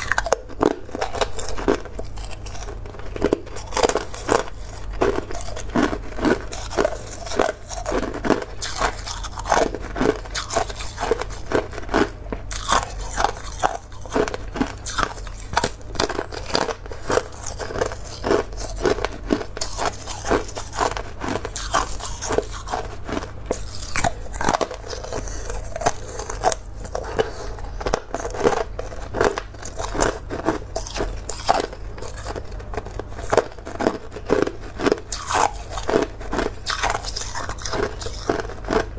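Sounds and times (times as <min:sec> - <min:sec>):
ice crunching and cracking: 0:00.0 - 0:38.9.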